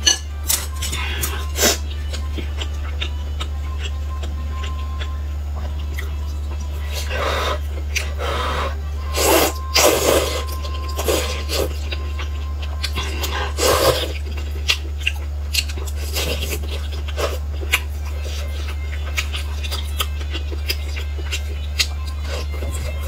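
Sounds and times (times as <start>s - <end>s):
steady low hum: 0.0s - 23.0s
chewing with lip smacks: 0.8s - 8.8s, 9.5s - 23.0s.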